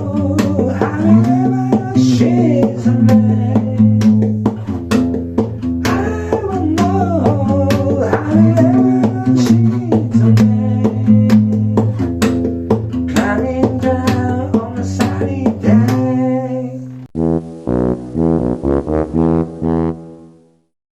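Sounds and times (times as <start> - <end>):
guitar plucked and strummed: 0.0 - 18.1.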